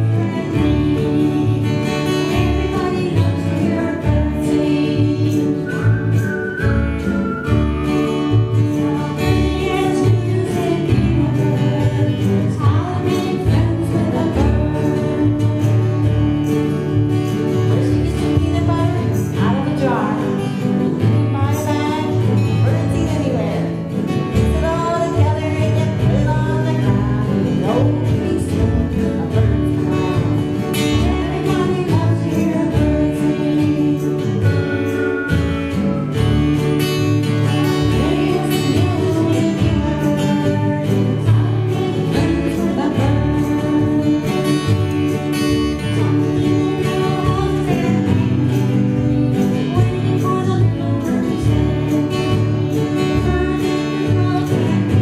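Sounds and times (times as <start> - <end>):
acoustic guitar strummed: 0.0 - 55.0
double bass plucked: 0.0 - 55.0
woman singing: 0.0 - 55.0.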